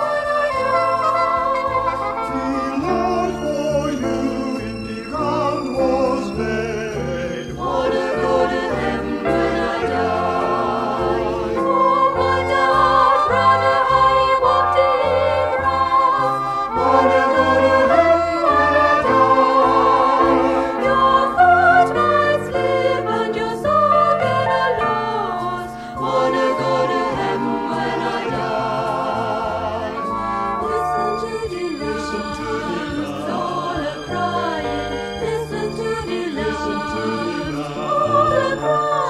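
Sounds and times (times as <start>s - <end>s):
instrumental accompaniment: 0.0s - 39.0s
vocal group singing in harmony: 0.0s - 39.0s.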